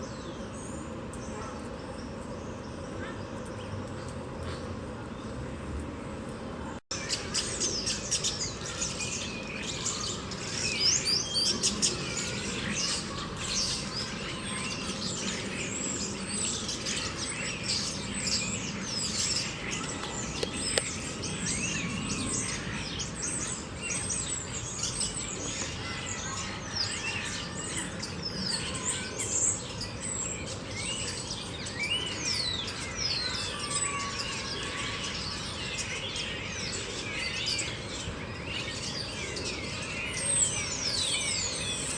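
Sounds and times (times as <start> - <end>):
small birds chirping: 6.3 - 41.9.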